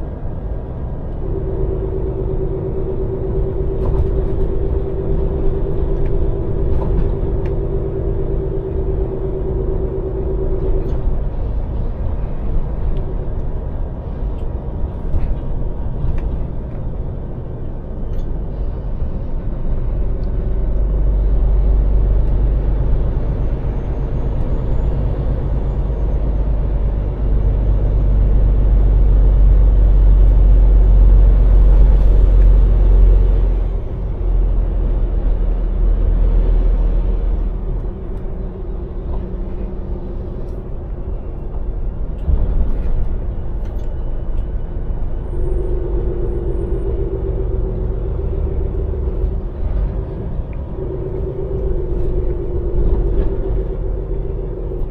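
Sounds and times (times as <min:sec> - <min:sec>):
diesel lorry engine droning: 0:00.0 - 0:54.9
steady whine: 0:00.0 - 0:54.9.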